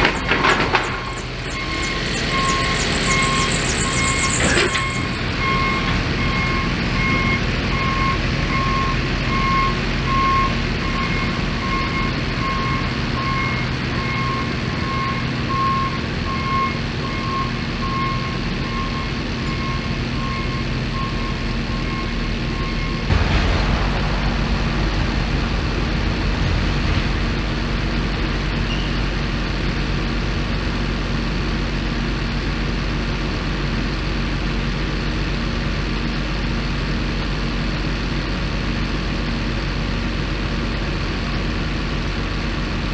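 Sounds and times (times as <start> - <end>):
loader engine rumbling: 0.0 - 42.9.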